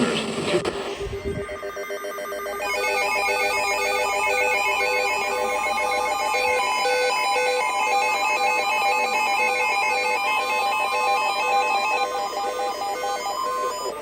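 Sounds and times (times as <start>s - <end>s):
electronic ringtone melody: 1.2s - 14.0s.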